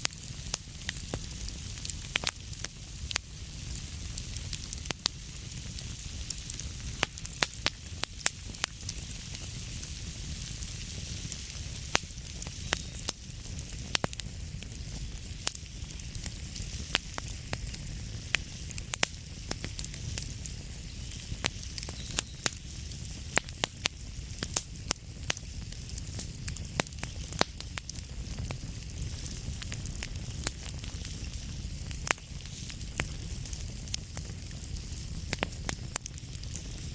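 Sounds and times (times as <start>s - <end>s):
fire crackling and popping: 0.0s - 36.9s
fire hissing and rumbling: 0.0s - 36.9s.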